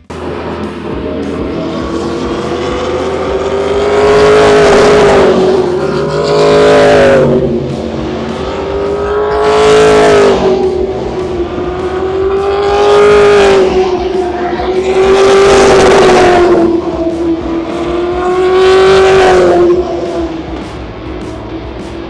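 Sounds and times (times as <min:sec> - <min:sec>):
race cars passing at high revs: 0:00.0 - 0:22.0.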